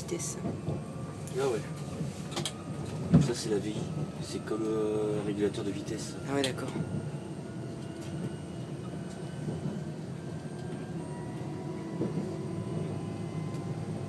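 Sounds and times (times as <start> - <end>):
train cab low drone: 0.0 - 14.0.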